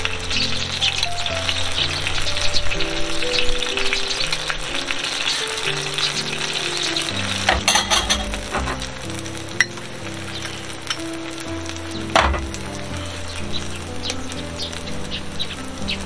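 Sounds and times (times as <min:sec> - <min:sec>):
background music with held notes: 0:00.0 - 0:16.0
meat sizzling in a grill pan: 0:00.0 - 0:16.0.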